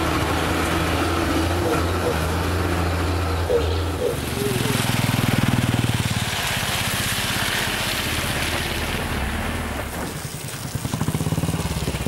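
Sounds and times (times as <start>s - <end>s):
motorcycle engine running: 0.0s - 8.0s, 10.3s - 12.0s.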